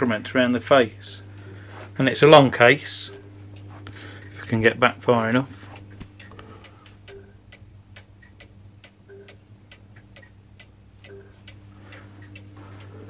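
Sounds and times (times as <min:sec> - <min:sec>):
faint low hum: 0:00.0 - 0:13.0
electric clock ticking: 0:00.1 - 0:13.0.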